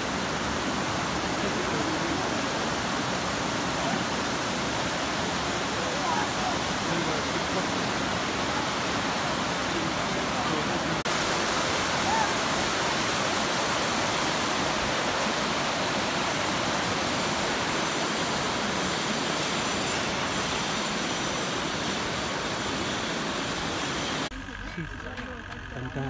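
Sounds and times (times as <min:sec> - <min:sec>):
river rushing over rocks: 0:00.0 - 0:24.3.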